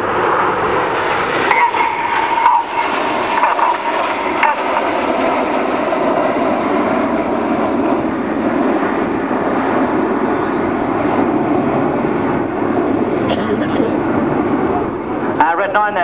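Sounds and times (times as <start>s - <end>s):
jets flying in formation: 0.0s - 16.0s.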